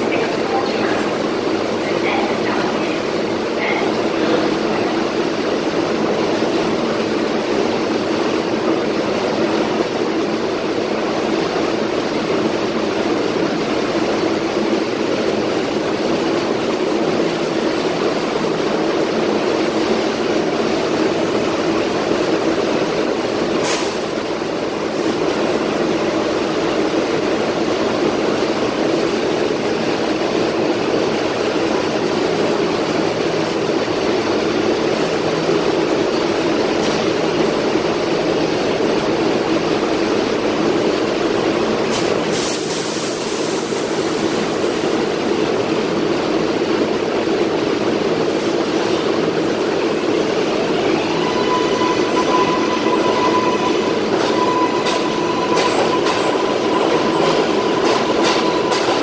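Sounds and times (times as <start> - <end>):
subway train droning: 0.0 - 59.0.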